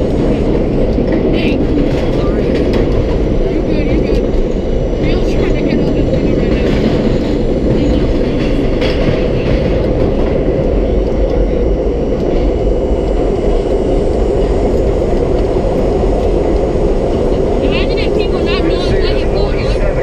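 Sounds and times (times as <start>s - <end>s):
subway car rumbling: 0.0s - 20.0s.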